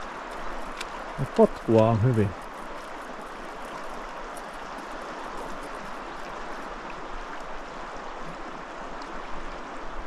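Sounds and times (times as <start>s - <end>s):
river flowing: 0.0s - 10.0s.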